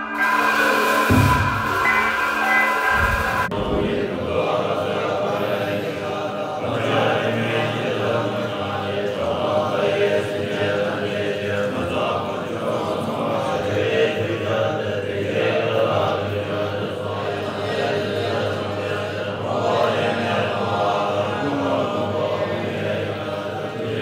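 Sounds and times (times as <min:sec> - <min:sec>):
monks chanting: 0:00.0 - 0:24.0.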